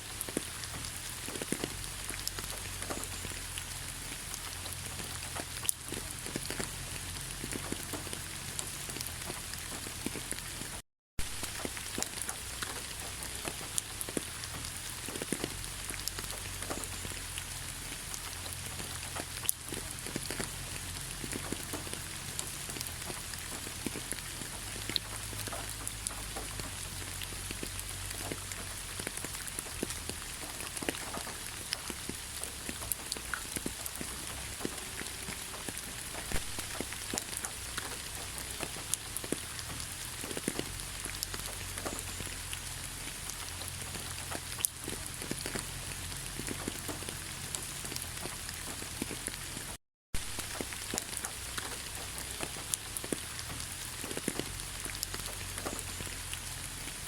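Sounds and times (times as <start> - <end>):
raindrops tapping close by: 0.0 - 57.0
steady rain: 0.0 - 57.0.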